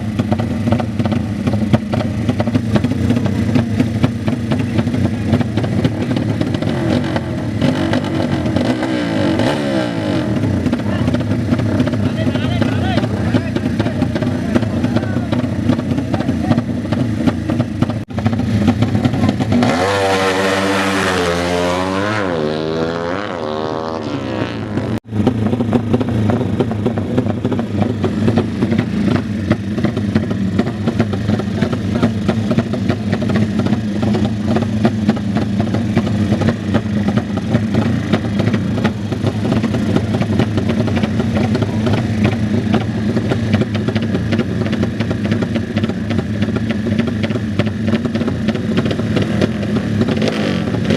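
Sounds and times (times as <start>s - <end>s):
motorcycle engines revving: 0.0s - 50.9s
motorcycle passing close: 0.0s - 50.9s.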